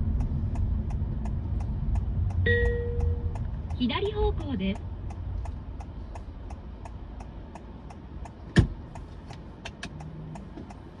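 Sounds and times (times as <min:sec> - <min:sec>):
low road rumble: 0:00.0 - 0:11.0
turn signal ticking: 0:00.0 - 0:11.0.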